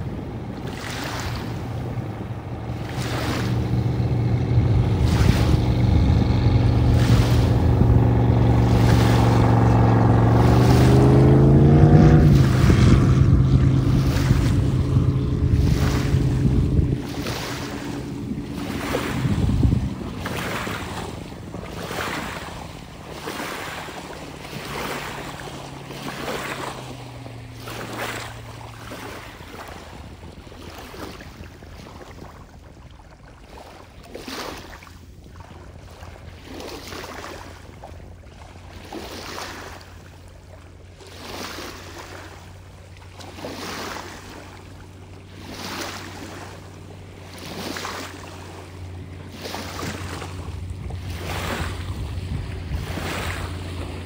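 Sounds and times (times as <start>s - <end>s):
small waves washing on shore: 0.0s - 54.0s
speedboat engine droning: 0.0s - 54.0s.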